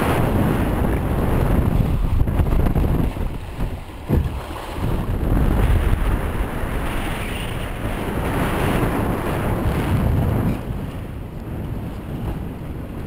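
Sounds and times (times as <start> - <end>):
water rushing along hulls: 0.0 - 13.0
wind buffeting microphone: 0.0 - 13.0.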